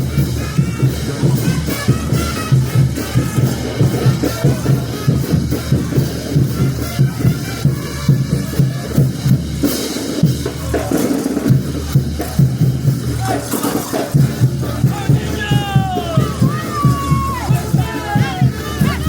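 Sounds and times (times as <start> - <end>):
bass drum and snare beat: 0.0 - 19.0
festival band music: 0.0 - 19.0.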